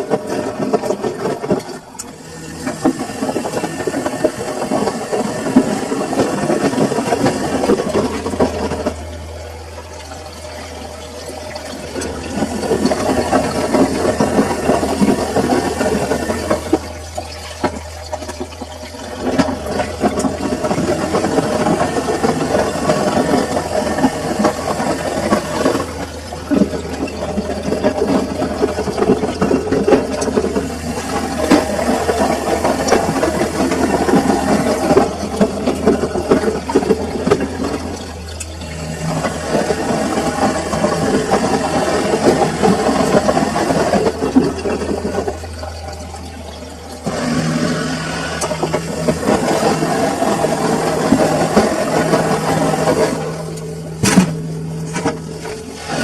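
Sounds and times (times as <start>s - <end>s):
low motor hum: 0.0s - 56.0s
washing machine drum rattling and sloshing: 0.0s - 56.0s.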